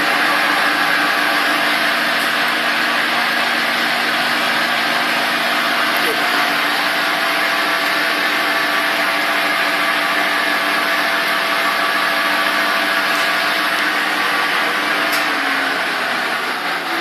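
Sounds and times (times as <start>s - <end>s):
metal lathe running: 0.0s - 17.0s.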